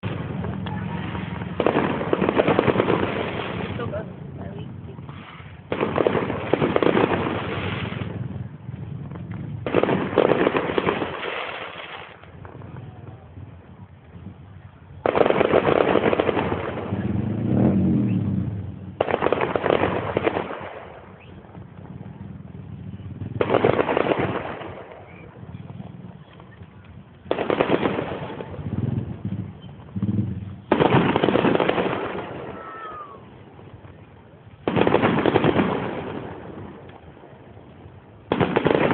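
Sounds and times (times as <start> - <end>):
fireworks crackling bangs: 0.0 - 38.9.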